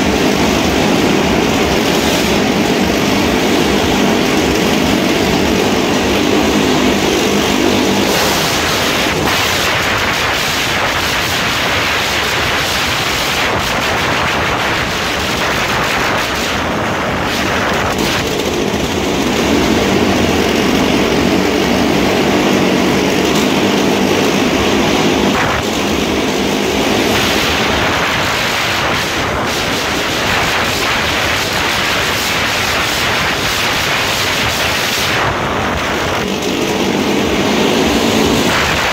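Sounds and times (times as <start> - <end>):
motorcycle engines racing: 0.0 - 38.9
rapid engine crackle: 0.0 - 38.9.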